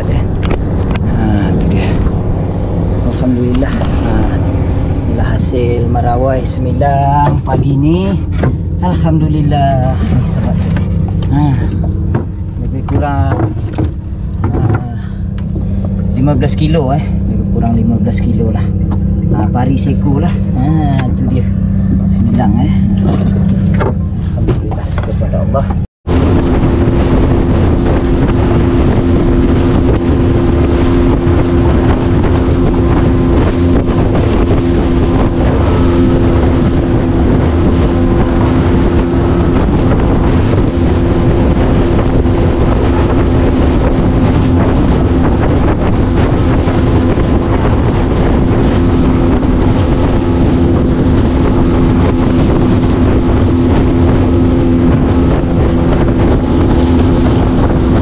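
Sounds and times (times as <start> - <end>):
boat motor running: 0.0 - 58.0
wind buffeting microphone: 0.0 - 58.0.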